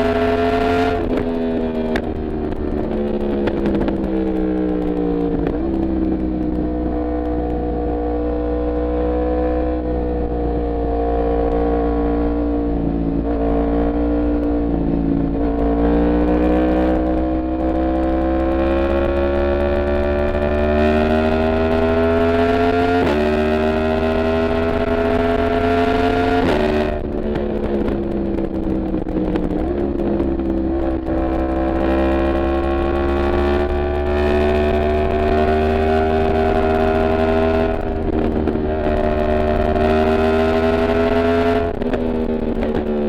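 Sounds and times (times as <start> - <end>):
low wind rumble: 0.0 - 43.0
motorcycle engine revving: 0.0 - 43.0.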